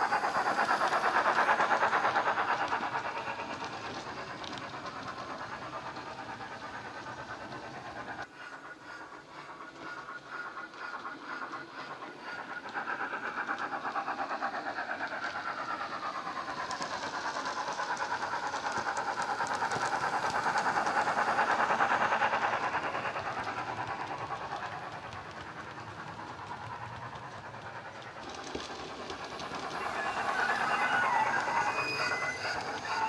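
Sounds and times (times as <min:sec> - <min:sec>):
model steam locomotive chuffs: 0:00.0 - 0:33.0.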